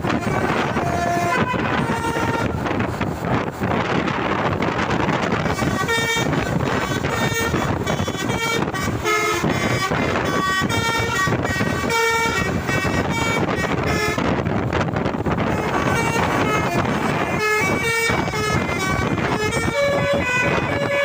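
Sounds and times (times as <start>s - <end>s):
traffic noise: 0.0s - 21.0s
wind: 0.0s - 21.0s.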